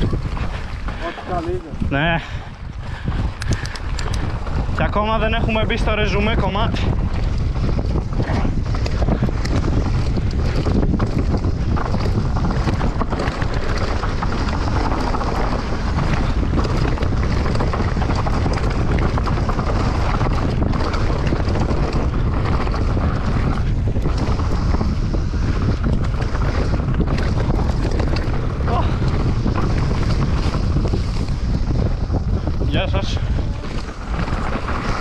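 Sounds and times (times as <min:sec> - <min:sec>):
bike rattles and knocks: 0:00.0 - 0:35.0
tyres rolling over dirt and stones: 0:00.0 - 0:35.0
wind buffeting microphone: 0:00.0 - 0:35.0.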